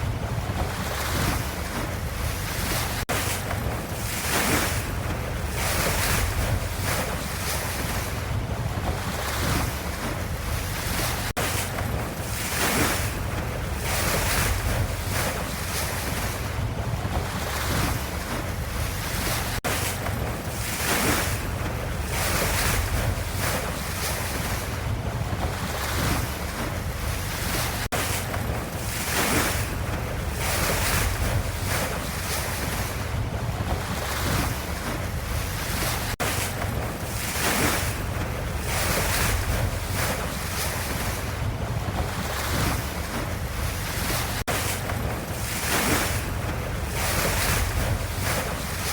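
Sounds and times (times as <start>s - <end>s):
ocean waves washing in: 0.0s - 48.9s.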